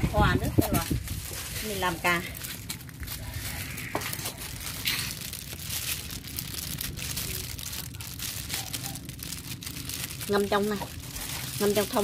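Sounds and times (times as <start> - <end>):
plastic gloves crinkling: 0.0 - 12.0.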